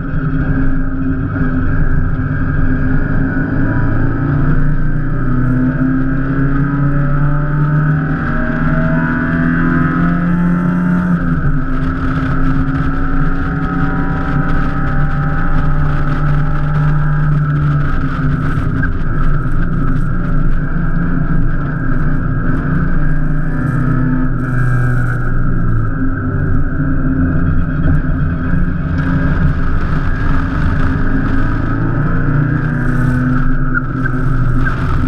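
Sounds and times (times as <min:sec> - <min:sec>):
sports car engine revving: 0:00.0 - 0:35.0.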